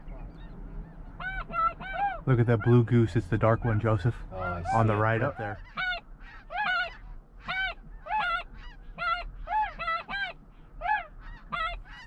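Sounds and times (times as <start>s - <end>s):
geese honking: 0.4s - 12.0s.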